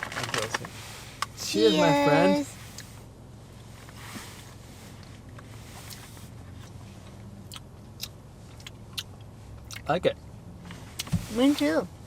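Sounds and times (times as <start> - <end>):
car interior hum: 0.0 - 12.0.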